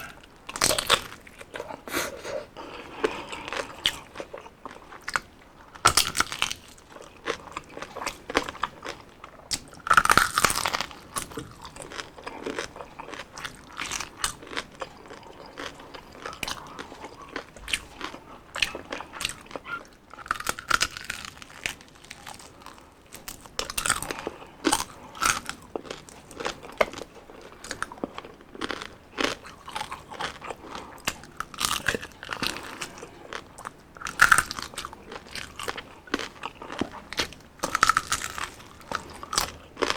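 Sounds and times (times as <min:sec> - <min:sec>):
crunching bites of fried food: 0:00.0 - 0:02.0, 0:02.7 - 0:39.9.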